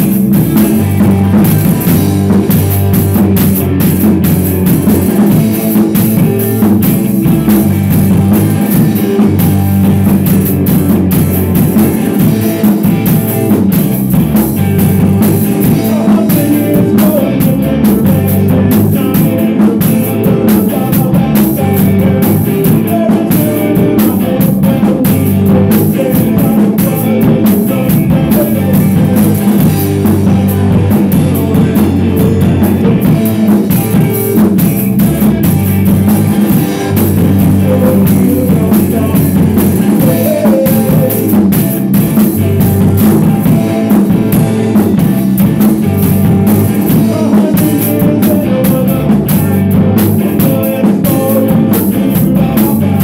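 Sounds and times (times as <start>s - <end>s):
drum kit with cymbals: 0.0s - 53.0s
electric guitar: 0.0s - 53.0s
rock band playing: 0.0s - 53.0s.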